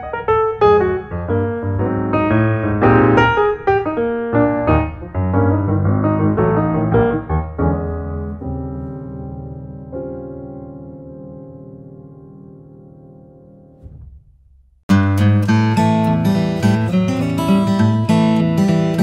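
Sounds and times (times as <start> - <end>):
solo piano music: 0.0 - 14.3, 14.9 - 19.0.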